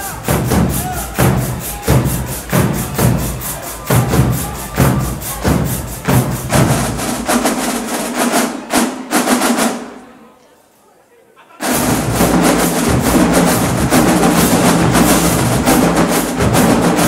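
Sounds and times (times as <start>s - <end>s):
snare drums rapid patterns: 0.0s - 10.0s, 11.6s - 17.0s.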